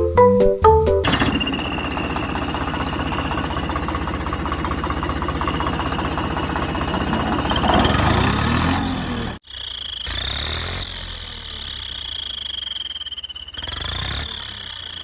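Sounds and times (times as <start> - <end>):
tractor engine chugging: 1.0 - 15.0.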